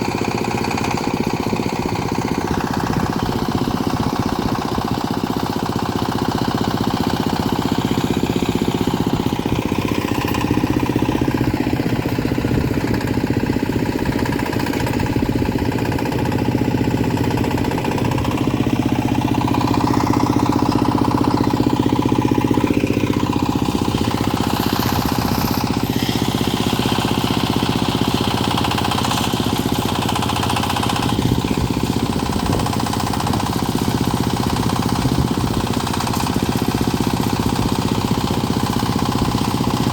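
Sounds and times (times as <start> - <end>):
backhoe engine knocking: 0.0 - 39.9.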